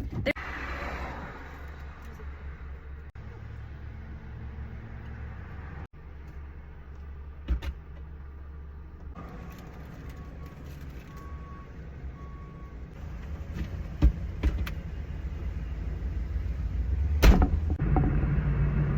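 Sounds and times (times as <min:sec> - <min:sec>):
car engine rumbling: 0:00.0 - 0:18.9.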